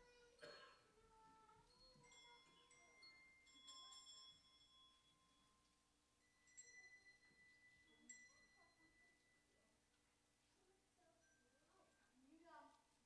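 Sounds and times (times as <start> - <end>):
handbells ringing: 0.0 - 9.8, 11.2 - 12.5.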